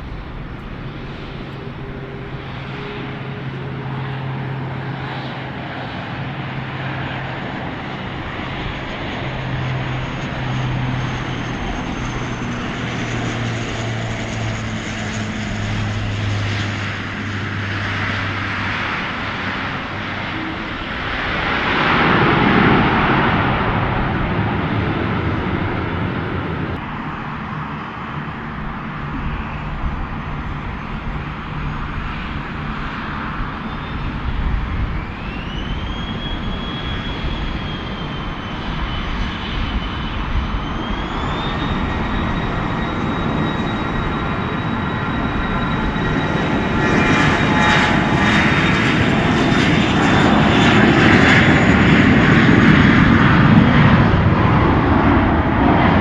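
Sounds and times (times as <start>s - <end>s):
airliner engines whining: 0.0s - 56.0s.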